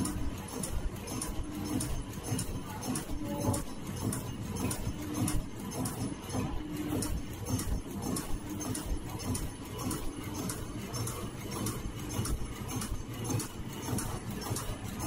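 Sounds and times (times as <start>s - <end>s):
machine clattering: 0.0s - 15.0s.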